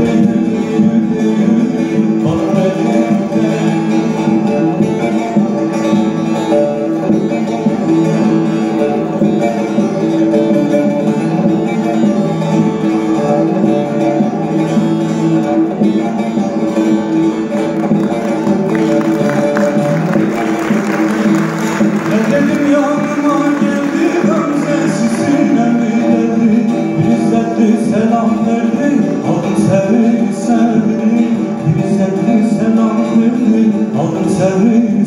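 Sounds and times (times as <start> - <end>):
plucked long-necked lute: 0.0 - 35.0.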